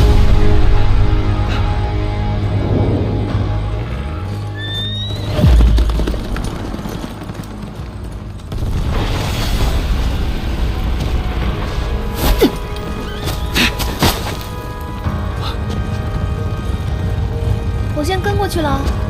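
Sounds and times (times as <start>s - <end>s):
dramatic soundtrack music: 0.0s - 19.0s
rumbling: 0.0s - 19.0s.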